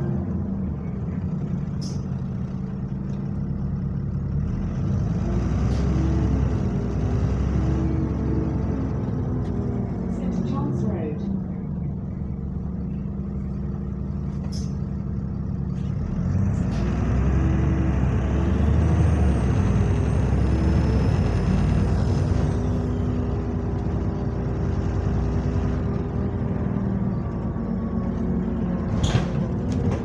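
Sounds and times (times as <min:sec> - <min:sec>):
diesel bus engine running: 0:00.0 - 0:30.0.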